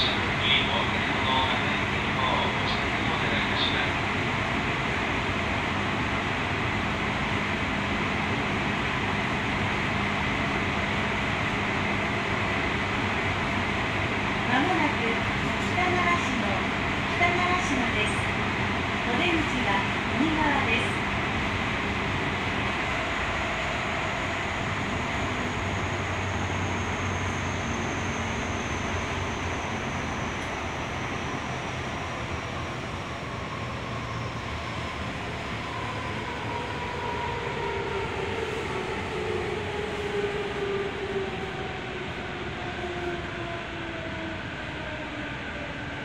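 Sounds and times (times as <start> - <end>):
train rumbling from inside: 0.0 - 46.0.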